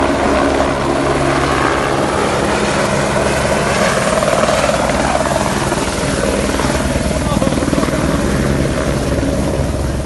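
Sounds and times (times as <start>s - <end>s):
helicopter rotor beat: 0.0s - 10.0s.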